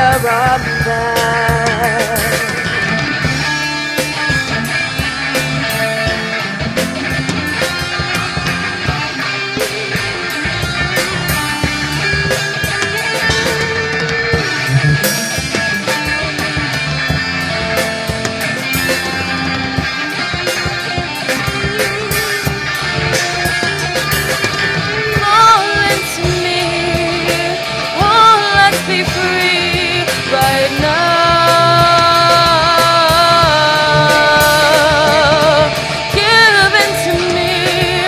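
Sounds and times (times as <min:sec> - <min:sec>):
drum and cymbal hits: 0:00.0 - 0:38.0
rock band playing: 0:00.0 - 0:38.0.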